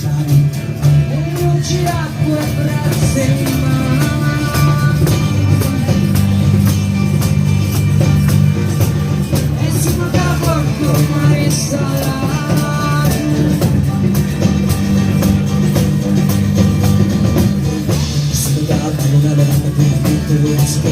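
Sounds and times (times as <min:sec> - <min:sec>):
music with steady beat and bass: 0:00.0 - 0:20.9.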